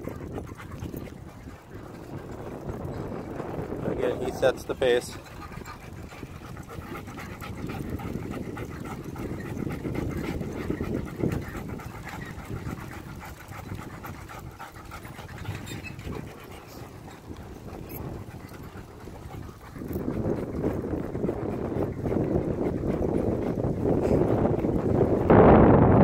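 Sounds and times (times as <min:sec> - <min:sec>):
dog panting: 0:00.0 - 0:26.0
low rumble of bicycle ride: 0:00.0 - 0:26.0.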